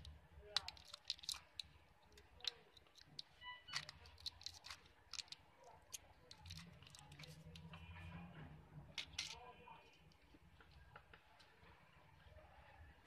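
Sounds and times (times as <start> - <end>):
plastic tape clicks and crinkles: 0.0 - 7.8, 8.9 - 11.7.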